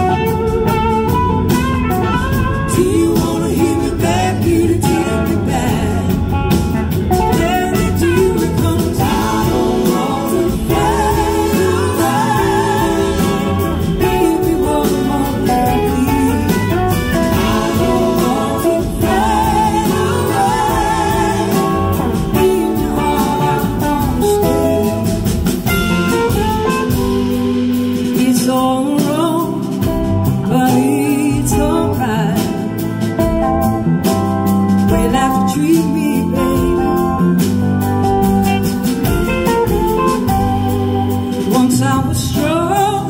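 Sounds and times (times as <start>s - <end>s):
woman singing lead: 0.0s - 33.2s, 34.8s - 37.6s, 38.9s - 43.0s
bass guitar: 0.0s - 43.0s
drums: 0.0s - 43.0s
electric guitars: 0.0s - 43.0s.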